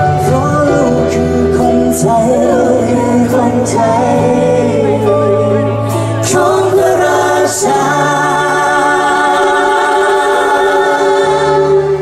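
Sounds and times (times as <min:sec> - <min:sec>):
big band music: 0:00.0 - 0:12.0.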